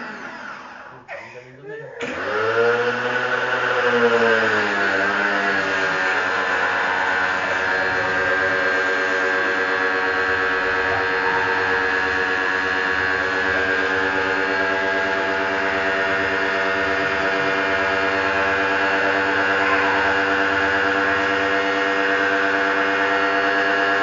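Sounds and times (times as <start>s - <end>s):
pressure washer motor hum: 0.0s - 1.1s, 2.0s - 24.0s.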